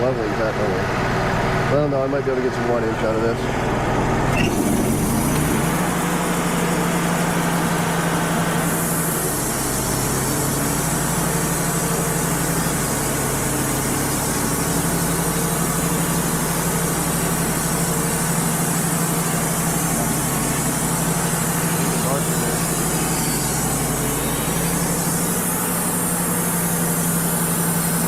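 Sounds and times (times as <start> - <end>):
diesel engine humming: 0.0 - 28.0
high hiss: 4.4 - 28.0.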